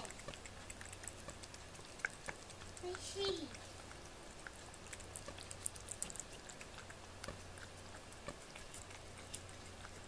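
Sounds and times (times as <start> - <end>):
cat licking wet clicks: 0.0 - 10.0
low steady hum: 0.0 - 10.0.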